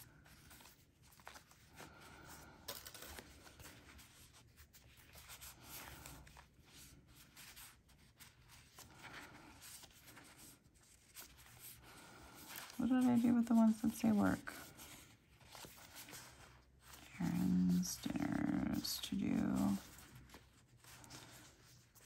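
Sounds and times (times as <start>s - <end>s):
paper sheets rustling: 0.0s - 22.0s.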